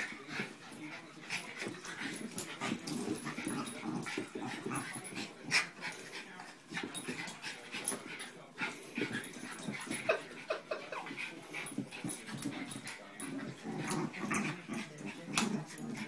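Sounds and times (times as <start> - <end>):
dogs play growling: 0.0 - 16.0.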